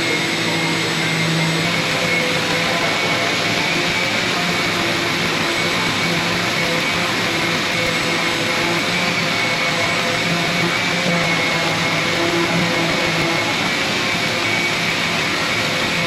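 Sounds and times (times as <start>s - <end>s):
power tool motor whining: 0.0s - 16.0s.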